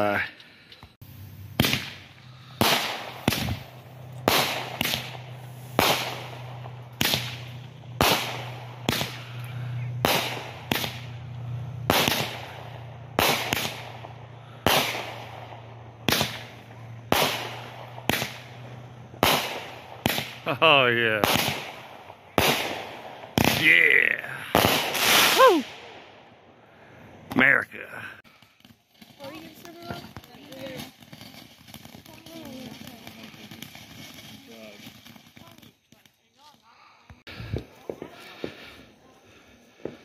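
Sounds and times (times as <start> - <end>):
fireworks bangs with echo: 1.1 - 26.3, 28.2 - 38.8.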